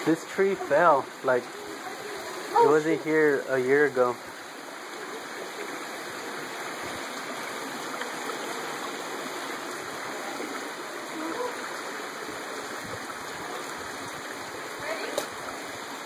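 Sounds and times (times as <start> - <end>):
creek running over rocks: 0.0 - 16.0.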